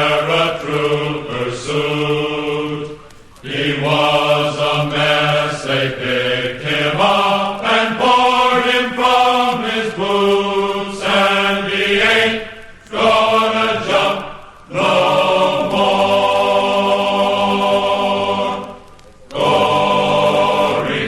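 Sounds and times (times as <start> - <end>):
voices singing held notes: 0.0 - 21.0.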